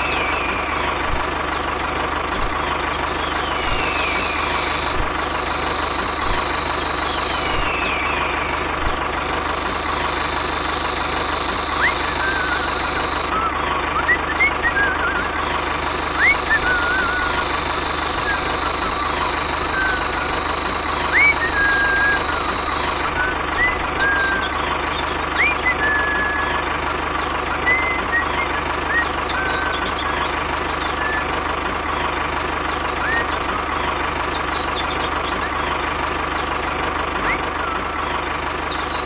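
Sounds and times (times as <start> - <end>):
short chirping glides: 0.0 - 39.0.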